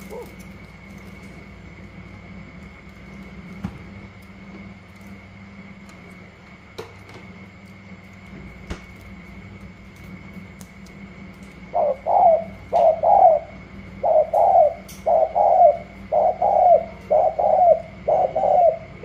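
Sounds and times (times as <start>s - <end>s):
faint high whine: 0.0s - 19.0s
steady low hum: 0.0s - 19.0s.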